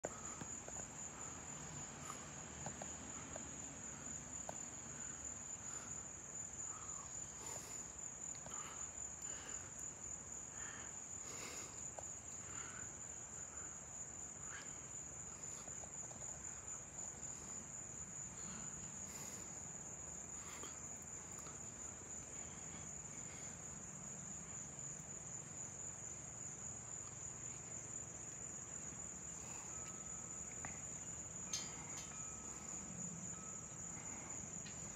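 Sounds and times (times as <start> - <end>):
insects trilling: 0.0 - 34.9.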